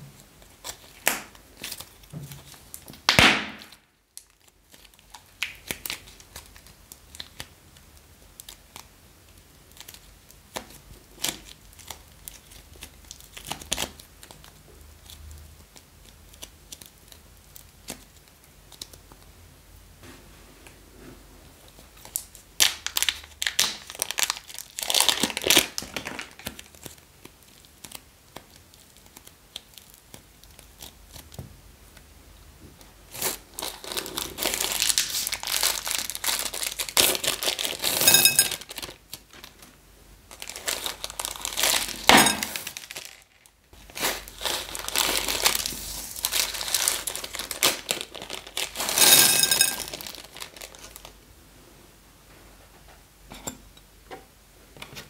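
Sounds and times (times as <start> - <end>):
plastic wrappers crinkling and tearing: 0.4 - 19.2, 21.6 - 31.4, 33.1 - 51.2.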